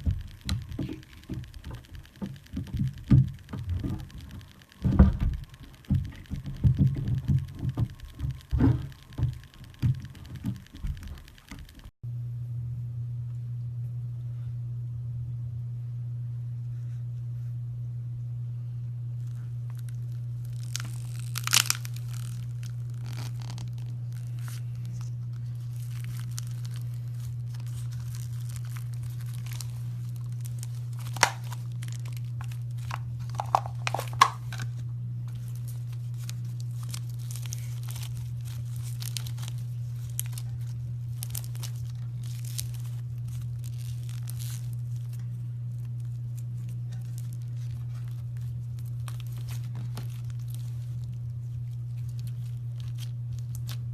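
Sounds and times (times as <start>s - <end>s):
slime crackling and popping: 0.0s - 11.9s, 19.2s - 53.9s
low electrical hum: 0.0s - 53.9s.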